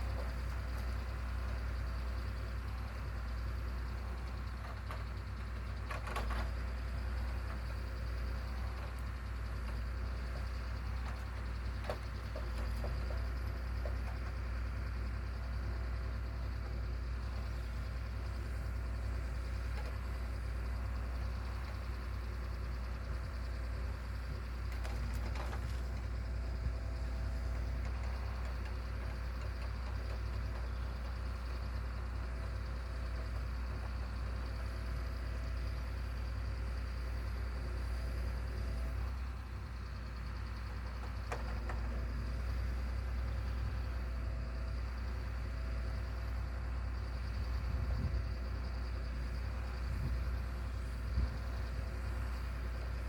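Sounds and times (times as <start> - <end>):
heavy machine engine droning: 0.0 - 53.0.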